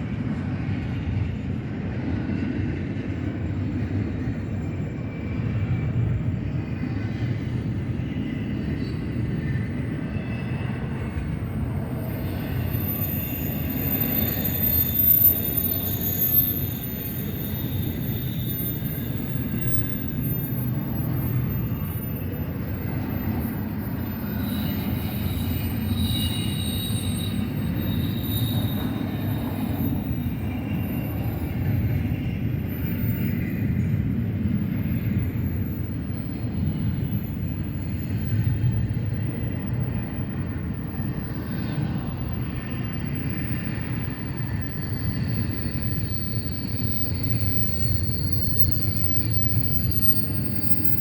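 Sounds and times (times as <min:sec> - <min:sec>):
freight train wheels rumbling: 0:00.0 - 0:51.0
faint high wheel squeal: 0:03.4 - 0:51.0.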